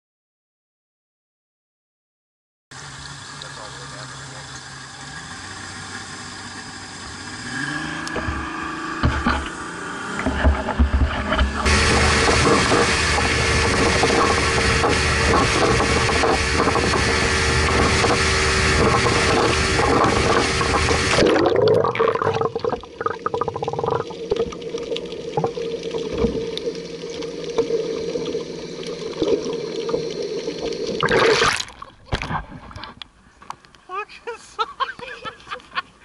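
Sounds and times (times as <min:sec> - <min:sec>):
water splashing: 0:02.8 - 0:33.2
boat motor hum: 0:02.8 - 0:36.0.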